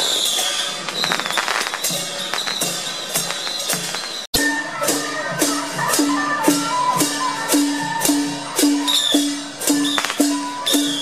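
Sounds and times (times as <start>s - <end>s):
struck percussion beat: 0.0s - 11.0s
high-pitched melody: 0.5s - 11.0s.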